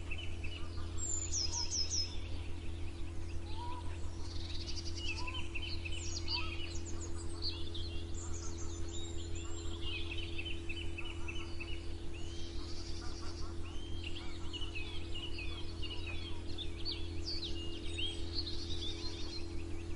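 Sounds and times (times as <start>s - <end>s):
songbirds chirping and singing: 0.0s - 19.9s
steady low hum: 0.0s - 19.9s.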